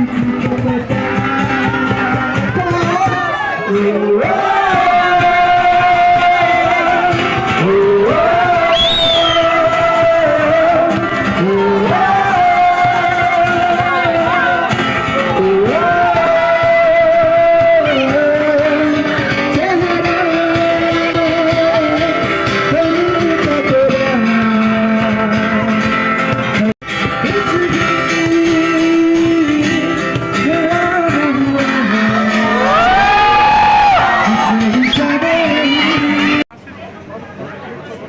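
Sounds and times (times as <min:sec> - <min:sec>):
person singing: 0:00.0 - 0:26.0, 0:26.6 - 0:36.5
guitar: 0:00.0 - 0:38.0.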